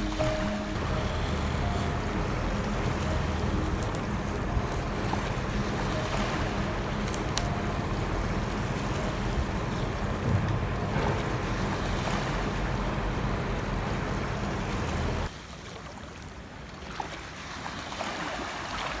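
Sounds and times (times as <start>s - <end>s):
ocean waves on a beach: 0.0s - 19.0s.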